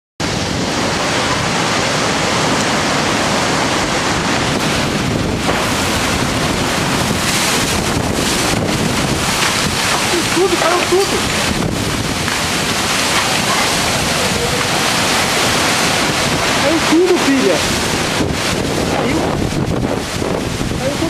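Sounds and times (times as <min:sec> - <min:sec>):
wind-driven heavy rain: 0:00.2 - 0:21.0.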